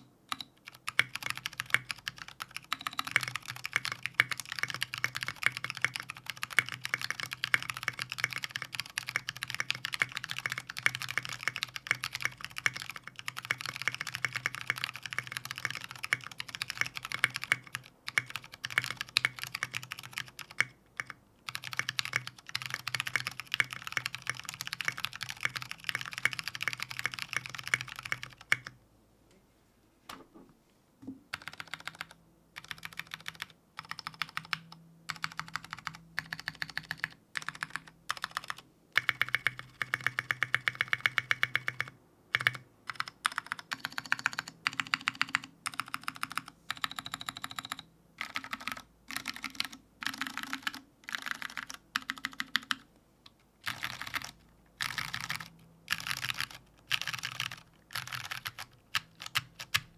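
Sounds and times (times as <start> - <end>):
fast typing on mechanical keyboard: 0.0 - 28.8, 31.3 - 52.9, 53.6 - 59.9.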